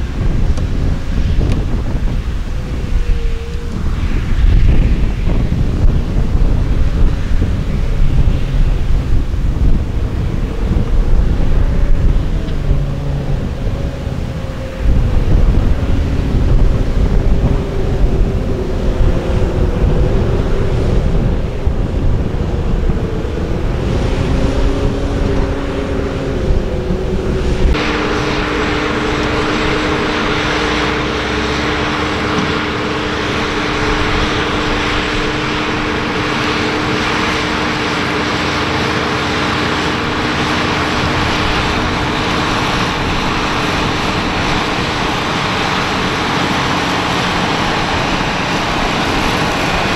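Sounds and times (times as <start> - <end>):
tractor diesel engine droning: 0.0 - 49.9
wind buffeting microphone: 0.0 - 49.9.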